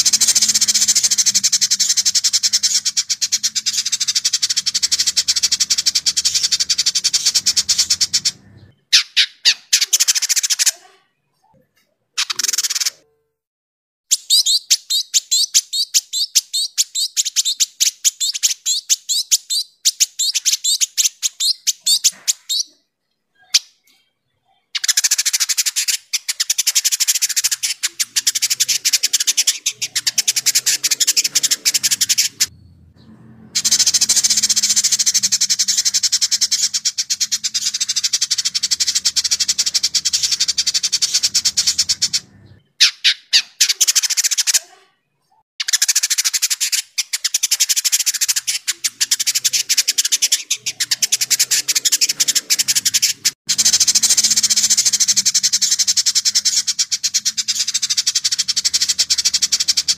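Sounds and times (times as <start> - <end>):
bird singing rapid high chatter: 0.0 - 11.5, 12.2 - 13.1, 14.1 - 59.9.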